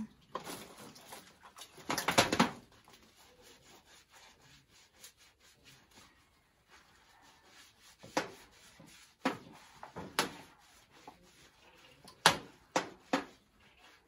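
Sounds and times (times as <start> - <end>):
sponge scrubbing skin: 2.5 - 14.0.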